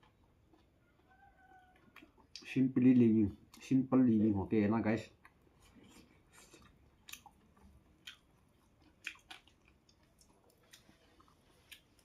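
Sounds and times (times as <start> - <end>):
person chewing food: 0.0 - 3.8, 5.0 - 12.0.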